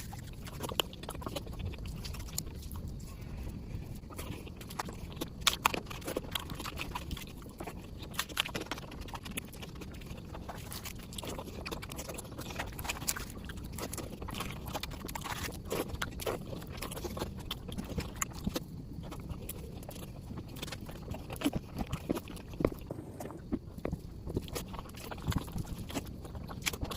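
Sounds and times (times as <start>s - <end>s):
low steady background noise: 0.0s - 26.9s
mouth chewing food: 0.0s - 26.9s.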